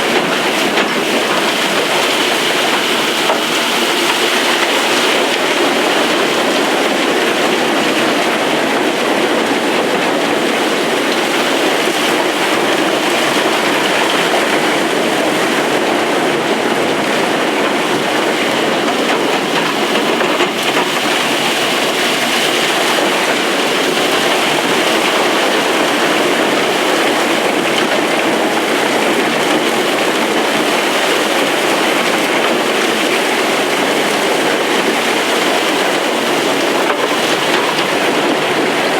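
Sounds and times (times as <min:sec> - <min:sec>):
mining machinery running: 0:00.0 - 0:38.9.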